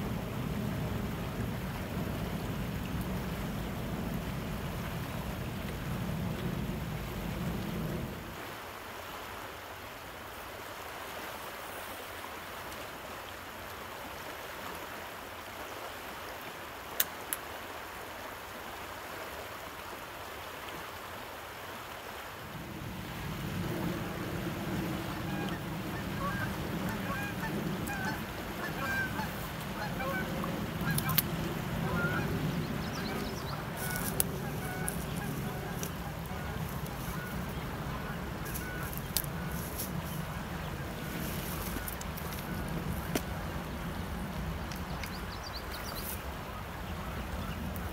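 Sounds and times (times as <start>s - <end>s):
river current rushing: 0.0s - 47.9s.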